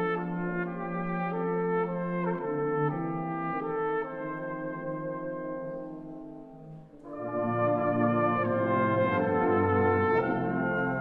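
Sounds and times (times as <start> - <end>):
brass band playing: 0.0 - 11.0
solo cornet: 0.0 - 11.0.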